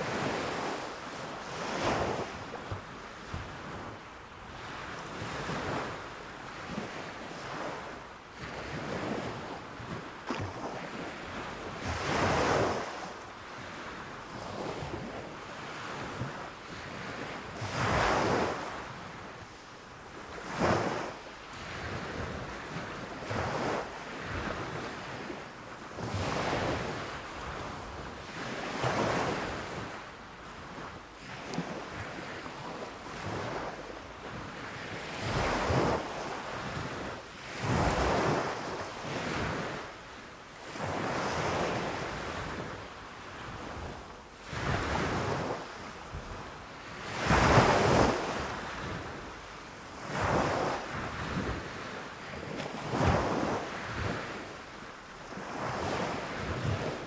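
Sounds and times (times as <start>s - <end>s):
small waves breaking on sand: 0.0s - 57.0s.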